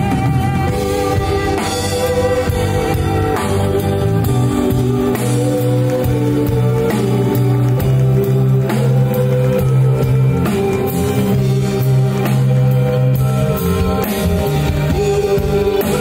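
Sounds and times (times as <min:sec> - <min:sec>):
bass line: 0:00.0 - 0:16.0
drum kit: 0:00.0 - 0:16.0
electric guitars: 0:00.0 - 0:16.0
keyboard chords: 0:00.0 - 0:16.0.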